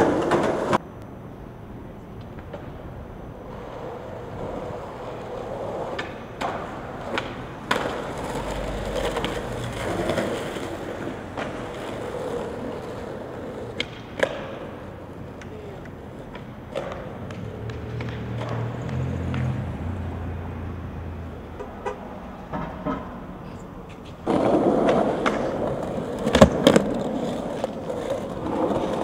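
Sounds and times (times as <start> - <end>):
skateboard clacks: 0.0 - 0.8, 2.1 - 19.6, 21.6 - 29.0
skateboard wheels rolling on pavement: 0.0 - 29.0.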